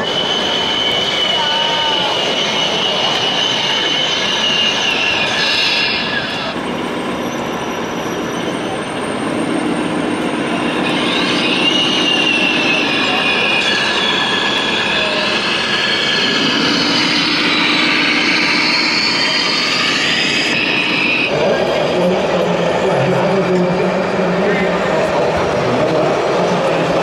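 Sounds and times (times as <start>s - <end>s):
busy hall din: 0.0s - 27.0s.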